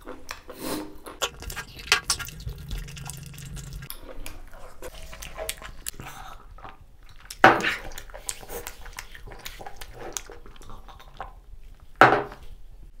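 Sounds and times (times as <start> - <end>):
wet chewing with smacking: 0.0 - 11.9.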